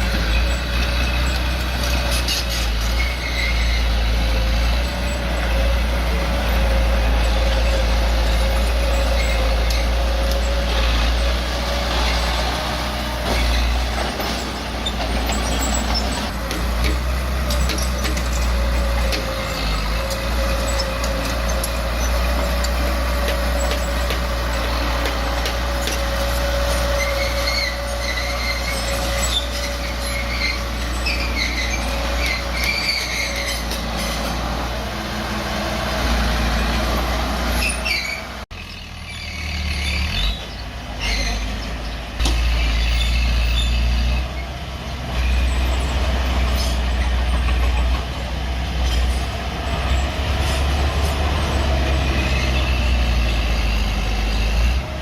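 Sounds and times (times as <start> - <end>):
metallic clanks and squeaks: 0.0 - 5.8, 6.4 - 34.7, 36.6 - 54.8
bulldozer diesel engine rumbling: 0.0 - 55.0.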